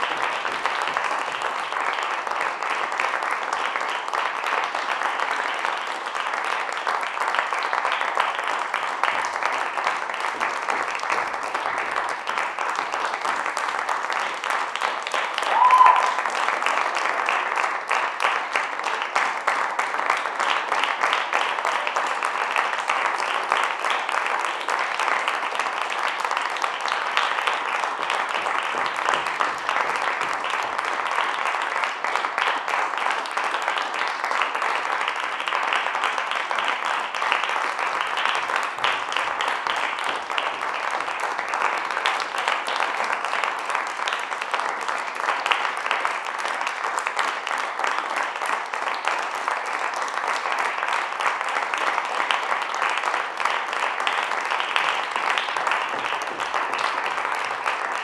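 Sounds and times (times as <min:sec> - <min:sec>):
audience applause: 0:00.0 - 0:58.0.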